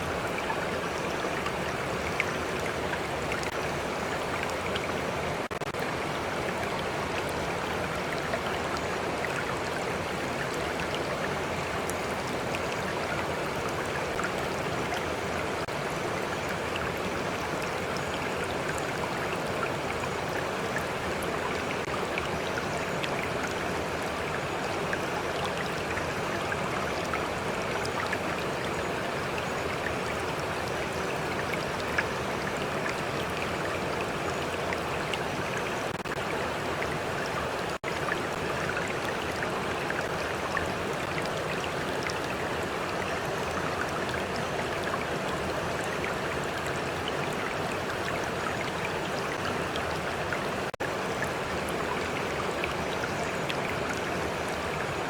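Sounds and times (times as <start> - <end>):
stream flowing and trickling: 0.0 - 55.0.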